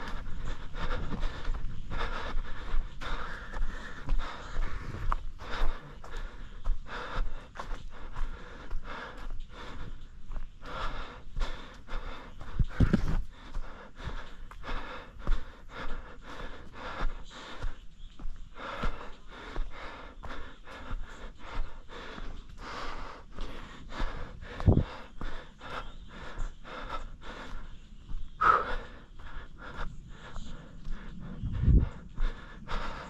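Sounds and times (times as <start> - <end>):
heavy fast panting: 0.0 - 33.0.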